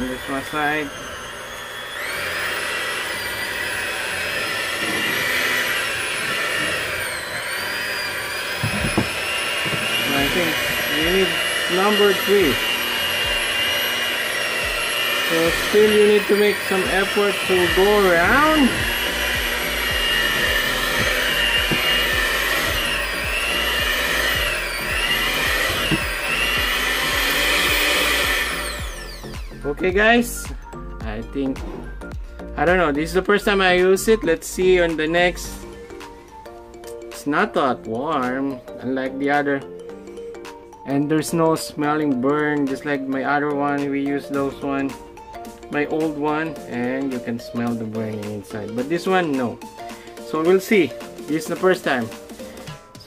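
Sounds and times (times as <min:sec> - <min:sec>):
hand mixer motor whine: 0:00.0 - 0:53.0.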